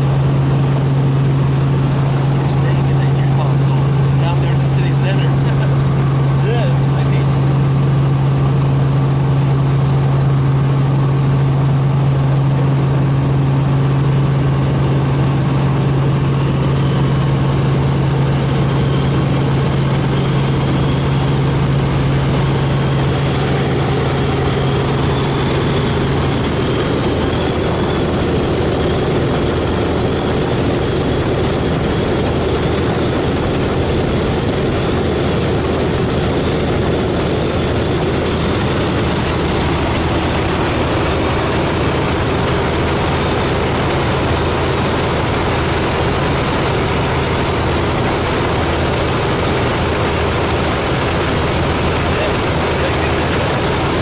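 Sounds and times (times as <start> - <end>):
helicopter engine and rotors drone: 0.0 - 54.0
steady rushing noise: 0.0 - 54.0
strong low hum: 0.0 - 54.0.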